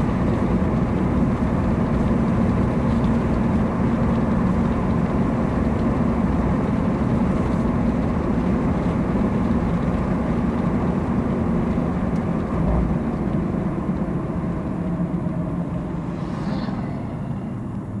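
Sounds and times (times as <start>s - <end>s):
car tyres and engine rumble: 0.0s - 18.0s.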